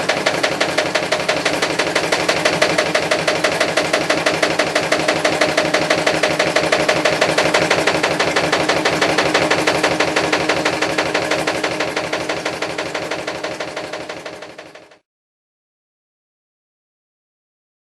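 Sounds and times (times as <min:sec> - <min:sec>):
washing machine drum knocking: 0:00.0 - 0:15.0
washing machine hum: 0:00.0 - 0:15.0.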